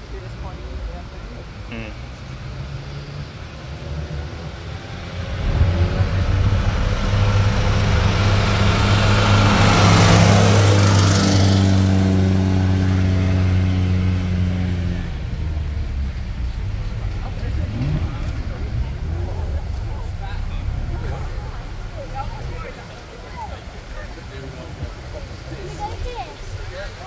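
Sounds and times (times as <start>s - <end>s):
car engine passing by: 0.0s - 27.0s.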